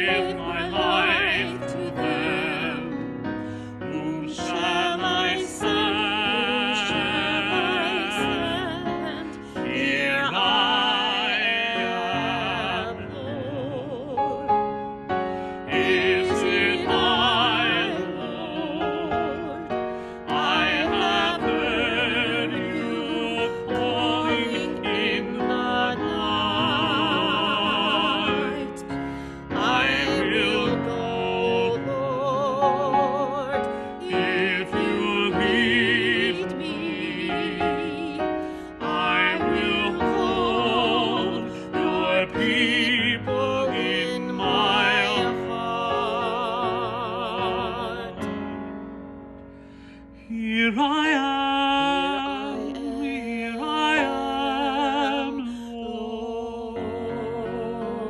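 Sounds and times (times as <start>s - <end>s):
man and woman singing a hymn: 0.0s - 48.7s, 49.7s - 58.0s.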